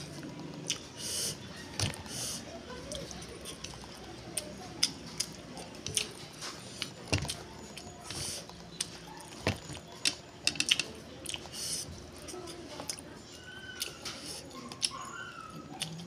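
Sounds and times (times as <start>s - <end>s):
person chewing noodles: 0.0s - 16.0s.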